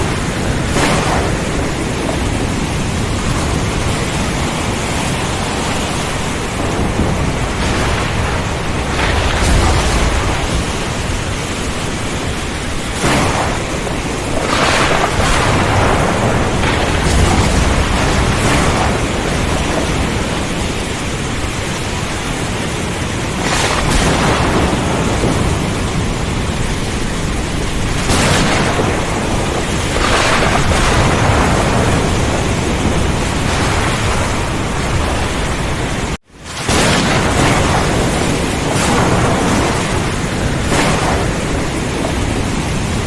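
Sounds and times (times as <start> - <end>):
heavy rain: 0.0 - 43.0
strong wind: 0.0 - 43.0
thunder: 0.0 - 43.0.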